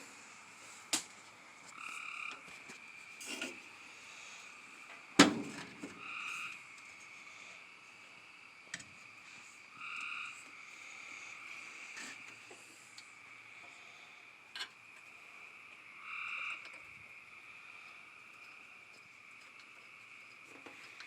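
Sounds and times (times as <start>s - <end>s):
frogs and insects chorus: 0.0s - 21.0s
loud frog calls: 0.0s - 21.0s.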